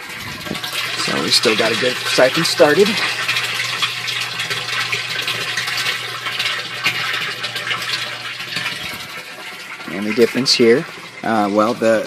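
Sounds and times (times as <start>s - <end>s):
water gushing into barrel: 0.0s - 12.0s.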